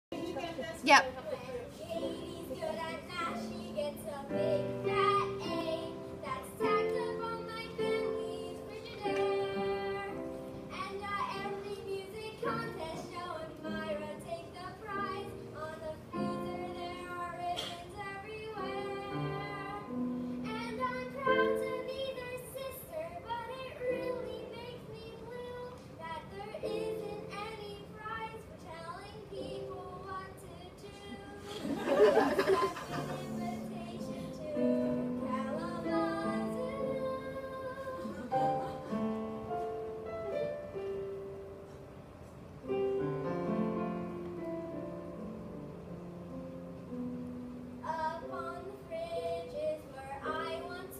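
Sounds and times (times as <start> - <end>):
girl singing: 0.2 - 39.6, 47.7 - 50.9.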